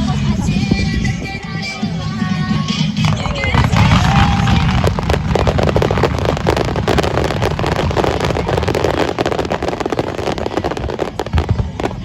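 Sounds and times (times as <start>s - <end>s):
wind rumble on microphone: 0.0s - 12.0s
fireworks crackling and popping: 2.0s - 12.0s.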